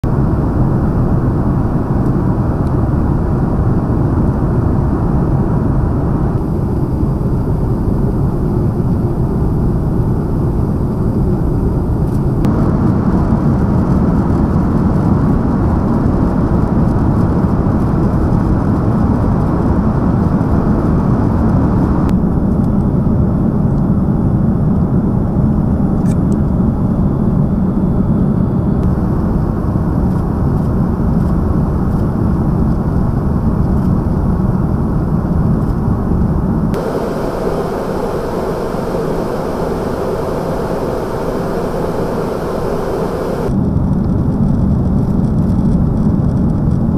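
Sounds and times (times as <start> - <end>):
jet engines rumbling in flight: 0.0 - 46.9.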